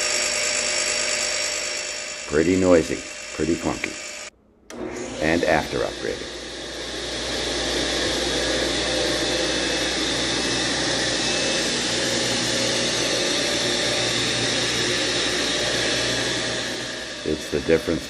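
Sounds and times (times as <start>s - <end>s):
table saw whining: 0.0s - 18.0s.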